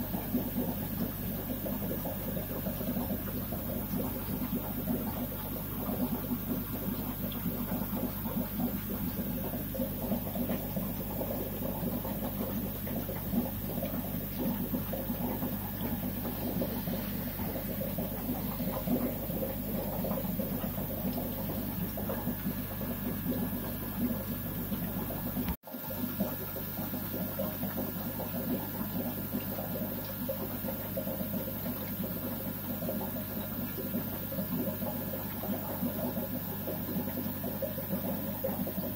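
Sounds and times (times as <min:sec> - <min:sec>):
filter hum: 0:00.0 - 0:38.9.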